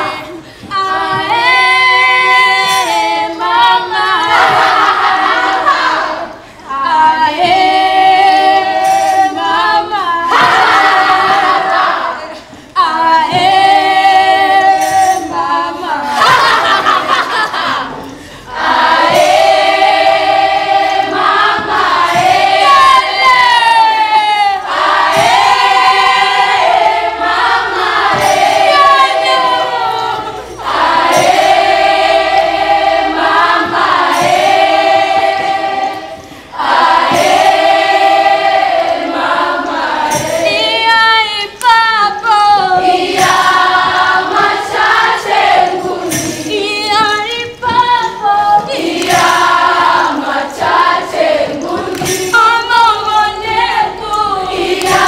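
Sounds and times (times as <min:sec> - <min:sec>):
group singing in chorus: 0:00.0 - 0:55.0.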